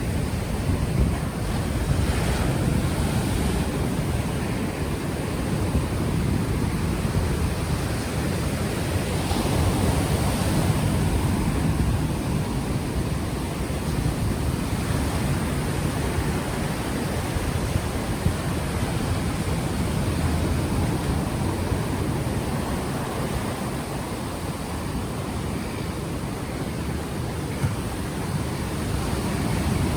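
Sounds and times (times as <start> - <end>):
ocean waves washing ashore: 0.0 - 29.9
wind buffeting microphone: 0.0 - 29.9.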